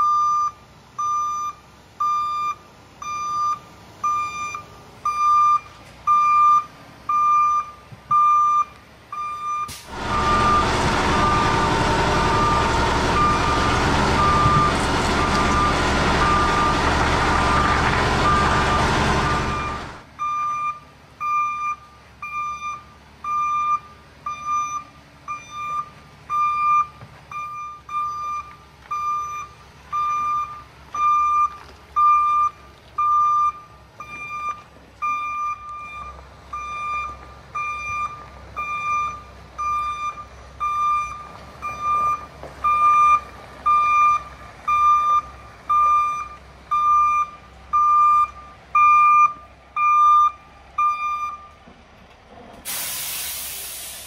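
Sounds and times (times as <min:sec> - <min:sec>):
truck backup alarm beeping: 0:00.0 - 0:51.6, 0:52.7 - 0:54.0
truck engine running low: 0:00.0 - 0:54.0.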